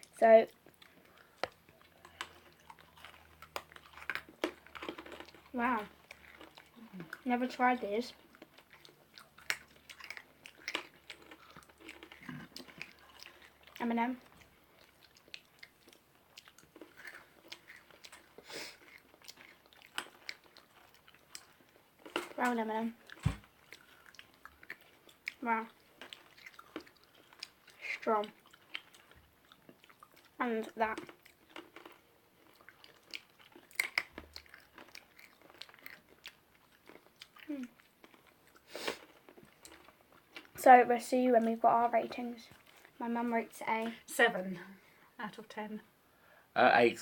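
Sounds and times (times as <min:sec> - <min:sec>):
people chewing crunchy candy: 0:00.0 - 0:43.0.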